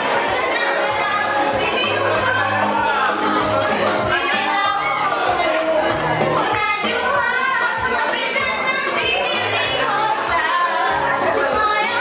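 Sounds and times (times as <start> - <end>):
music with singing: 0.0 - 12.0
people's voices: 0.0 - 12.0.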